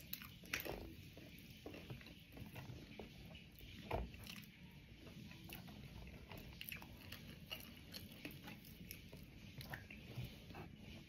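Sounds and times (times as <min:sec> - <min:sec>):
person chewing crispy food: 0:00.0 - 0:03.6, 0:04.2 - 0:10.1.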